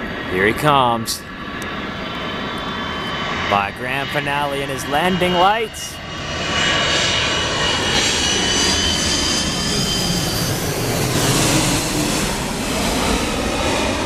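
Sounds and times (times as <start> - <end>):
jet engine whine: 0.0 - 14.0
rush of jet noise: 0.0 - 14.0.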